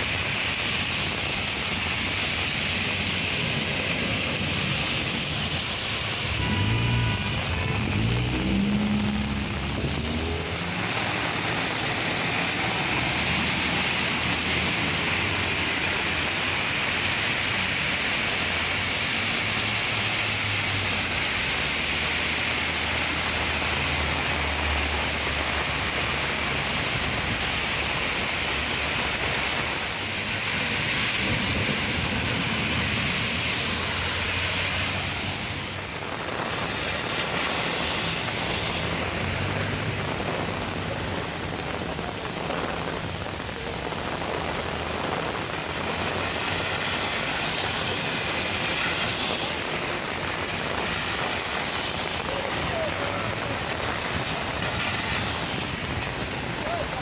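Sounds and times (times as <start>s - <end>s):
car tyres splashing through water: 0.0s - 57.0s
heavy rain pouring: 0.0s - 57.0s.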